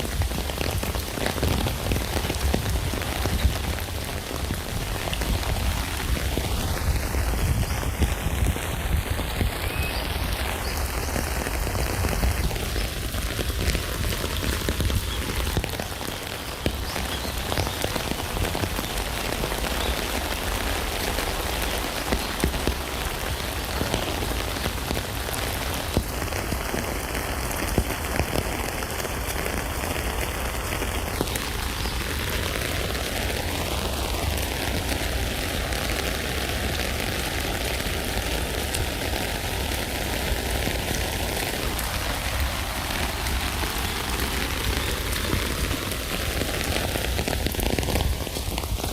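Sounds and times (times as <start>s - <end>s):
rain pattering on a tent: 0.0s - 48.9s.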